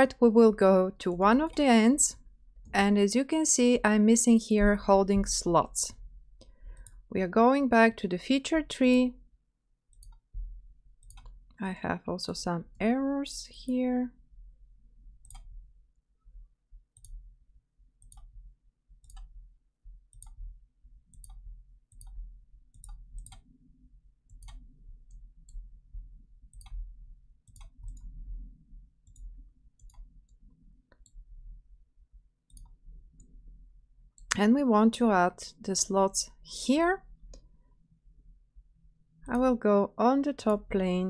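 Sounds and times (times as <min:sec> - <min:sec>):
faint low room hum: 0:00.0 - 0:41.0.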